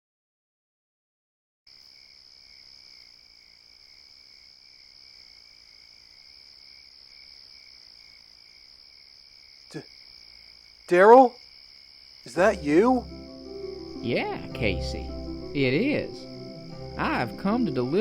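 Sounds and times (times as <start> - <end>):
crickets trilling: 1.7 - 18.0.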